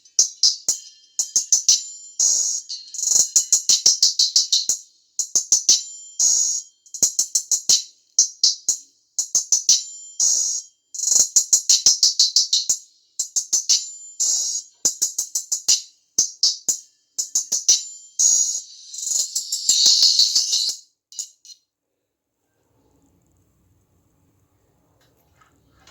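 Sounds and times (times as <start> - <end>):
tinny music with hi-hat beats: 0.0 - 21.6.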